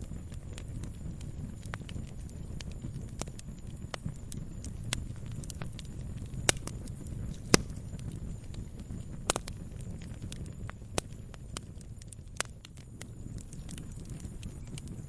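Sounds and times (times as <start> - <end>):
loud sharp fire snaps: 0.0 - 15.0
low rumble of flames: 0.0 - 15.0
wood crackling and popping: 0.0 - 15.0.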